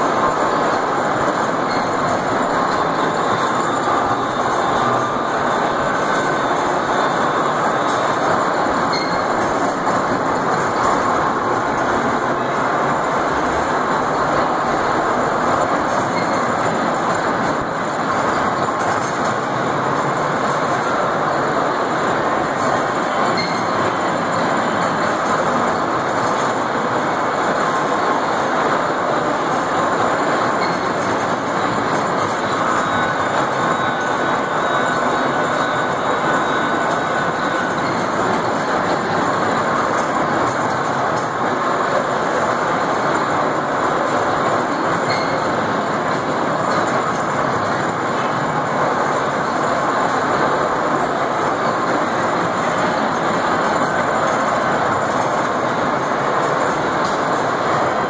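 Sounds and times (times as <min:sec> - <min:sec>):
toy train wheels rumbling on rails: 0:00.0 - 0:58.0.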